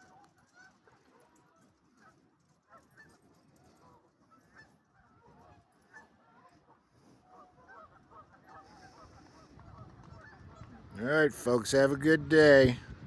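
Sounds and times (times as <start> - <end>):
waterfowl honking and quacking: 0.0 - 11.0.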